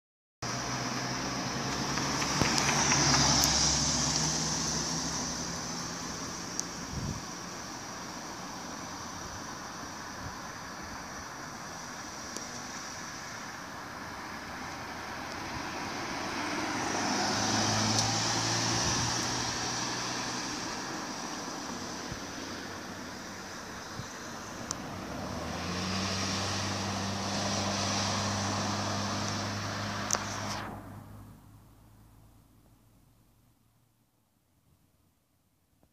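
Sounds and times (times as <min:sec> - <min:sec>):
car passing by: 0:00.4 - 0:32.4
low engine hum: 0:00.4 - 0:34.2.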